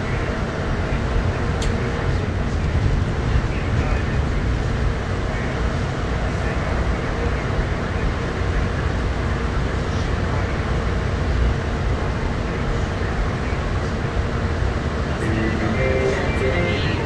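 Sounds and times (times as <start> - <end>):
train running in tunnel: 0.0 - 17.0.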